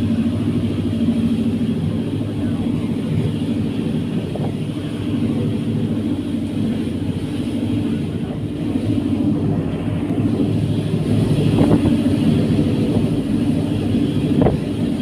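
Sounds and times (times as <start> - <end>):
ferry engines droning: 0.0 - 15.0.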